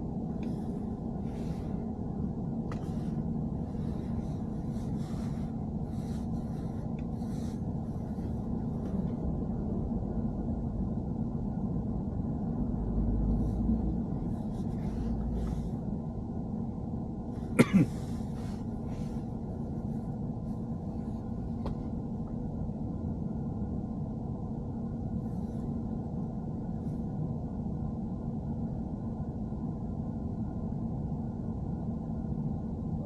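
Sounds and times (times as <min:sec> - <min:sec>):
road and engine rumble in car: 0:00.0 - 0:33.0.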